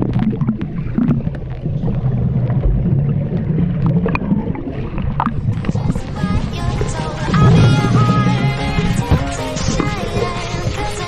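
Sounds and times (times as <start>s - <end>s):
bubbles clicking and popping: 0.0s - 11.0s
muffled underwater rumble: 0.0s - 11.0s.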